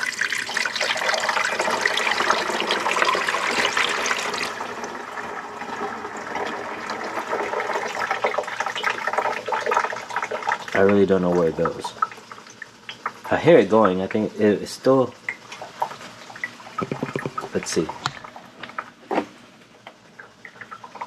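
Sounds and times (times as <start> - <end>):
water trickling inside unit: 0.0 - 21.0.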